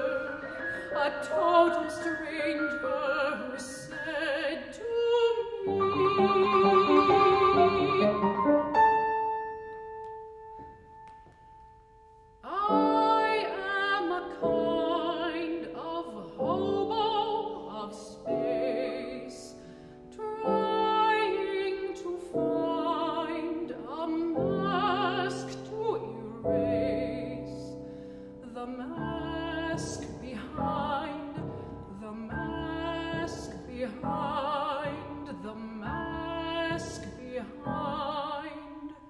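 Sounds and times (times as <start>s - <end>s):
woman singing with vibrato: 0.0s - 8.8s, 12.4s - 19.5s, 20.1s - 27.7s, 28.4s - 39.0s
piano chords: 0.0s - 39.0s.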